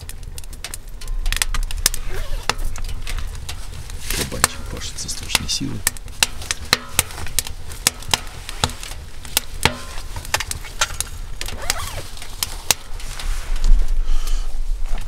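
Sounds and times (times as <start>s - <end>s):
firewood crackling: 0.0s - 15.0s.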